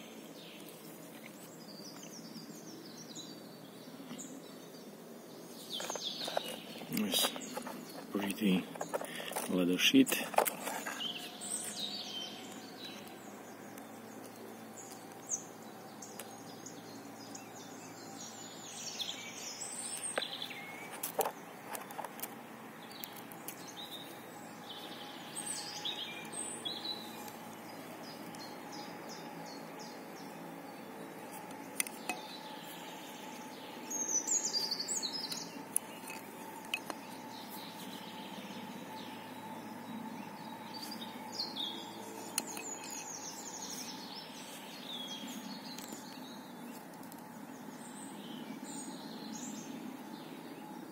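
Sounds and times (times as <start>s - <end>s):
birds chirping: 0.0s - 50.9s
outdoor background hiss: 0.0s - 50.9s.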